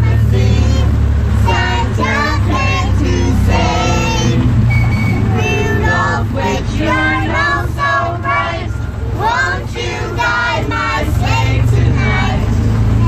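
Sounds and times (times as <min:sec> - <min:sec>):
children singing together: 0:00.0 - 0:04.5, 0:05.2 - 0:12.6
steady low rumble: 0:00.0 - 0:13.0.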